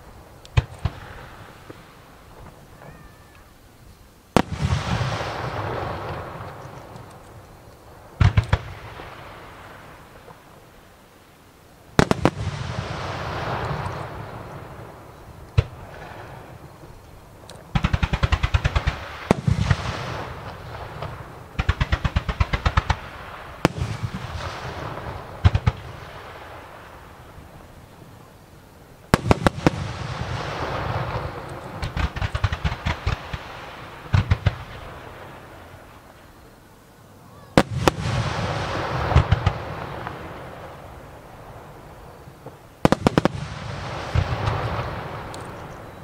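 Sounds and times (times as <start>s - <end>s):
fireworks bangs: 0.0s - 3.6s, 4.3s - 10.8s, 11.9s - 28.4s, 29.0s - 36.6s, 37.2s - 46.0s
rapid volleys of fireworks: 0.0s - 46.0s.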